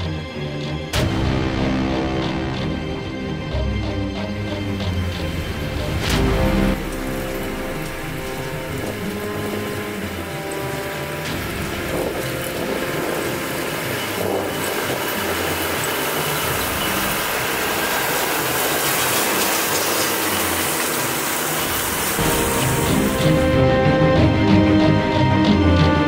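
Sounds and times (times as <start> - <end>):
tractor engine running: 1.0 - 26.0.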